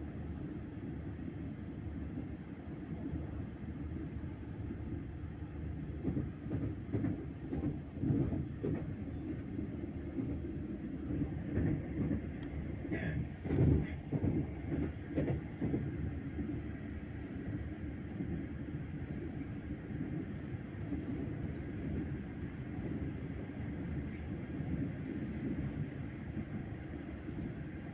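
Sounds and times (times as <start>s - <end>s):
train rumbling and rattling: 0.0s - 27.9s.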